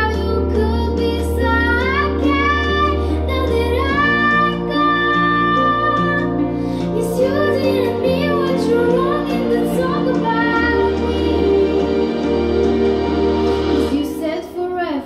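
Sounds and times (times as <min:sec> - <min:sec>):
girl singing pop ballad: 0:00.0 - 0:12.6, 0:13.7 - 0:15.0
recorded backing track: 0:00.0 - 0:15.0.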